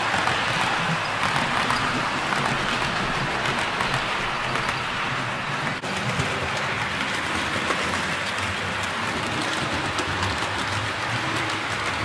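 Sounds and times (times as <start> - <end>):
model train wheels rattling: 0.0 - 12.0
wheels clicking over rail joints: 0.0 - 12.0.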